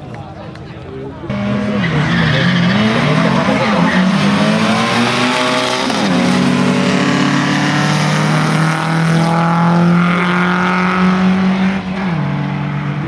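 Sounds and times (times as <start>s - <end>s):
race car engine revving: 1.3s - 13.0s.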